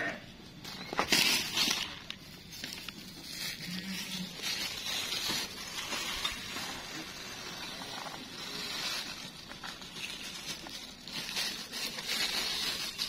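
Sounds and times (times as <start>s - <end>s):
plastic bag crinkling: 0.6s - 13.0s.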